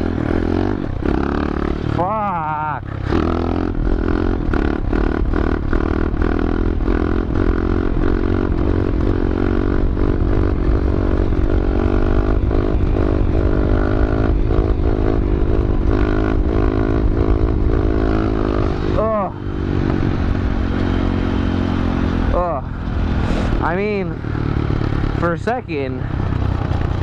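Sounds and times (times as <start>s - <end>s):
motorbike engine running: 0.0s - 27.0s.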